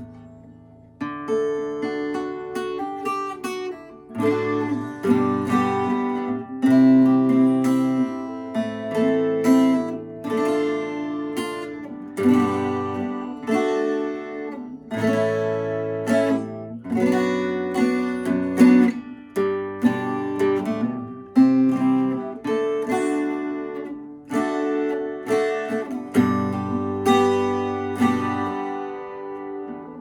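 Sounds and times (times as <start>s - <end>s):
acoustic guitar chords strummed: 0.0s - 30.0s.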